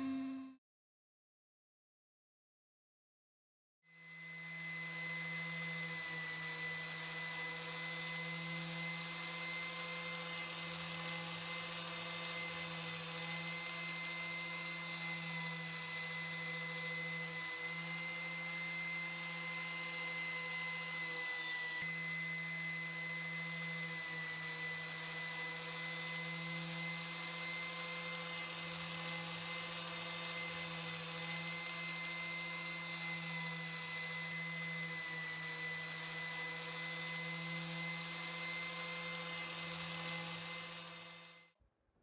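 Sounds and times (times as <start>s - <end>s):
electric power tool whining: 3.9s - 41.6s.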